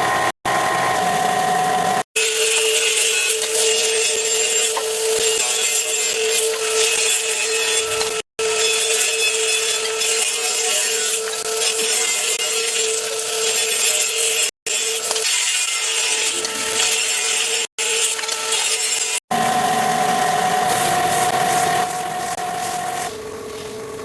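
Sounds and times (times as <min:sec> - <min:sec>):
power tools cutting wood: 0:00.0 - 0:23.2.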